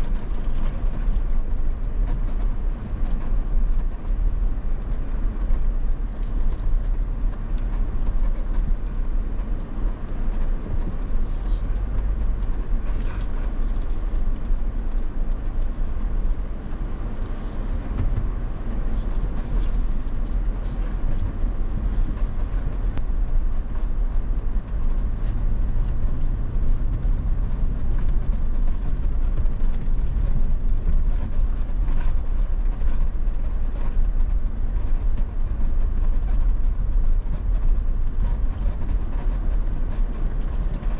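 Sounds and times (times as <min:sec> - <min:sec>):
off-road vehicle rumbling: 0:00.0 - 0:40.9
rattles and crunches from road: 0:00.0 - 0:40.9.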